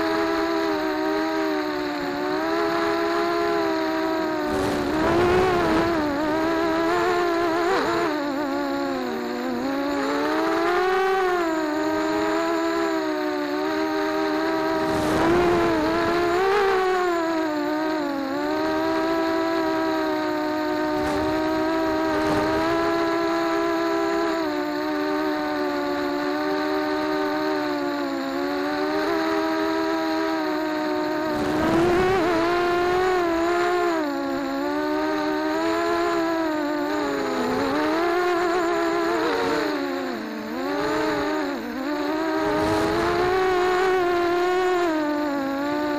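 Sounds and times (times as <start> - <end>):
quadcopter motors whining: 0.0 - 45.9.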